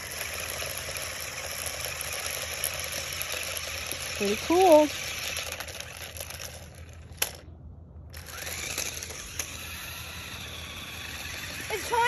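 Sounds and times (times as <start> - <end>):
toy car electric motor whirring: 0.0 - 7.4, 8.1 - 12.0.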